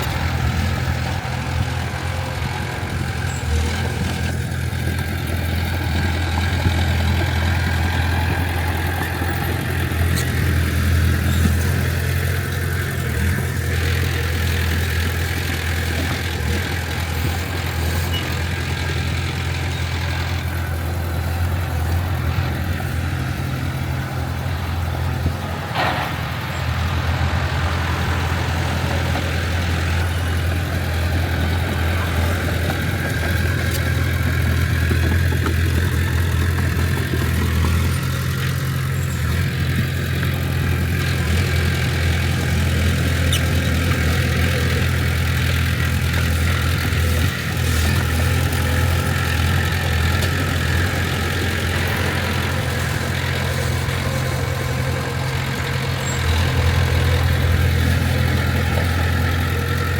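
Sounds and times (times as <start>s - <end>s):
diesel engine low hum: 0.0s - 59.9s
higher mechanical noise: 0.0s - 59.9s.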